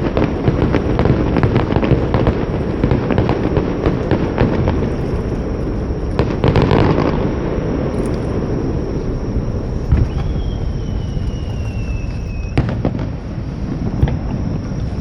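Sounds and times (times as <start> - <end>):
fireworks crackling: 0.0 - 15.0
fireworks shells booming: 0.0 - 15.0.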